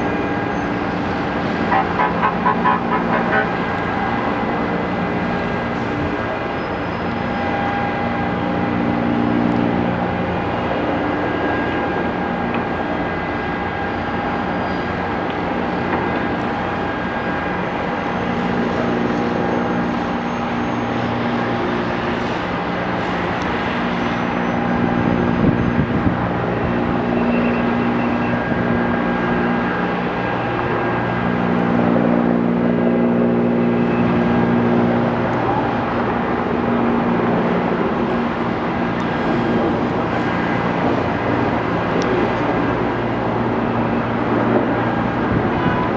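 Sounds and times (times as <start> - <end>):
engine drone: 0.0 - 45.9.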